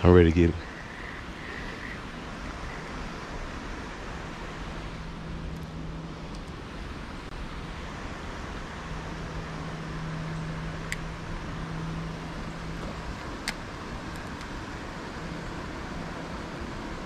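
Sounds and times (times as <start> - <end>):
low motor hum: 0.0 - 17.0
steady rushing noise: 0.0 - 17.0.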